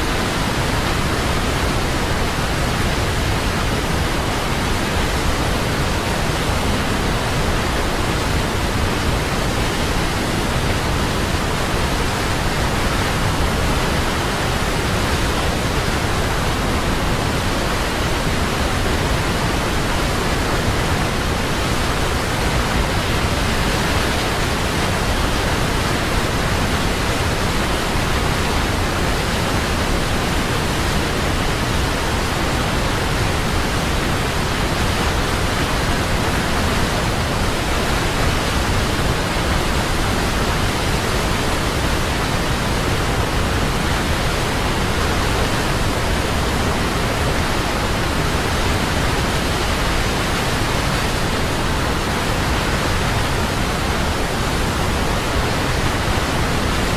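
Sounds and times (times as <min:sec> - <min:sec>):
waterfall roaring: 0:00.0 - 0:56.9.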